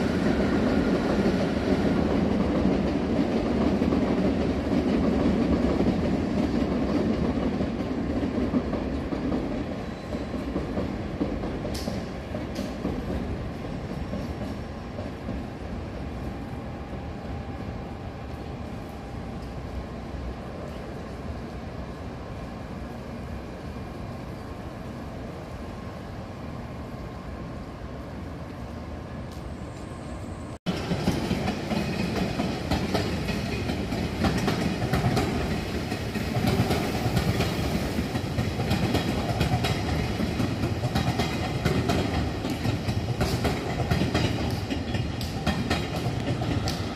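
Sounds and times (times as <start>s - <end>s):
distant rail yard rumble: 0.0s - 46.9s
electric train passing: 0.0s - 46.9s.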